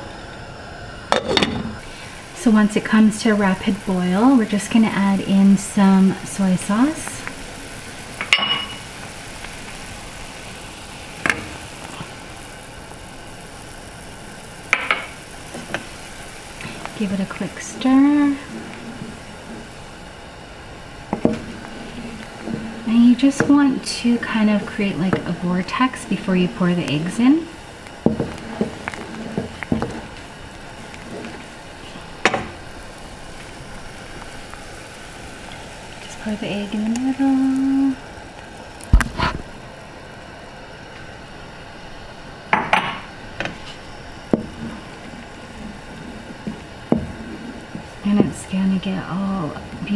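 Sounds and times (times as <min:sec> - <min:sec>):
soup bubbling at a rapid boil: 0:00.0 - 0:49.9.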